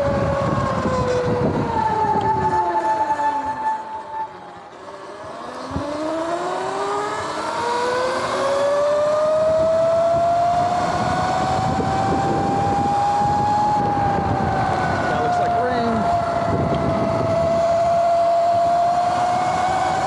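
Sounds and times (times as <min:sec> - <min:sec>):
wind noise: 0:00.0 - 0:03.6, 0:07.0 - 0:20.0
electric motor whine: 0:00.0 - 0:20.0.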